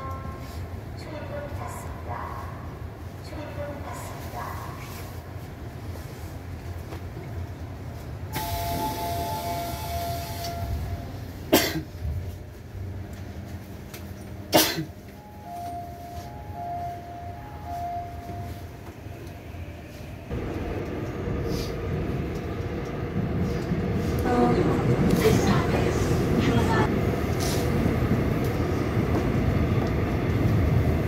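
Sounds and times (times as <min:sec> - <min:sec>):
subway train rumble from inside: 0:00.0 - 0:31.0.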